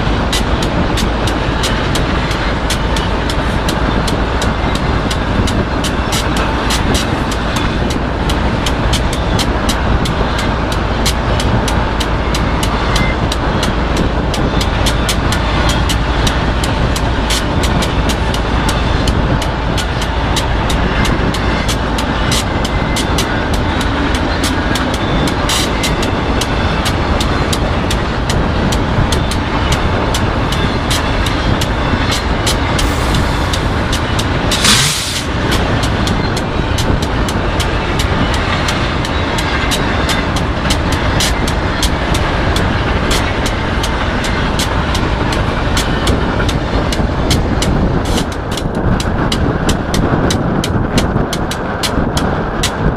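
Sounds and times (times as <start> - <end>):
freight train passing: 0.0 - 52.9
wheels clicking over rail joints: 0.0 - 52.9.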